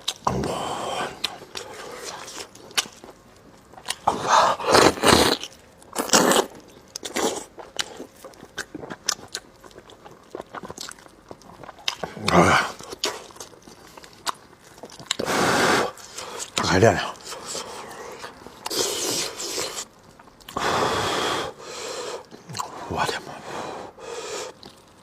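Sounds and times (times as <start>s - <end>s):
wet chewing and lip-smacking: 0.0s - 0.3s, 1.2s - 20.6s, 24.5s - 25.0s.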